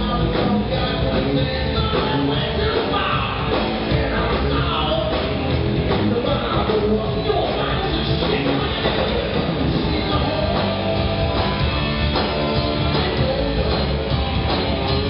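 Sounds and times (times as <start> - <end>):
bass guitar: 0.0 - 15.0
distorted electric guitars: 0.0 - 15.0
drum kit: 0.0 - 15.0.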